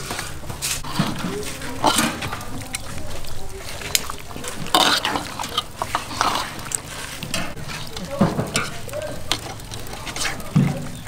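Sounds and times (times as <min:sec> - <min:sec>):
meat slapping on metal: 0:00.0 - 0:11.0.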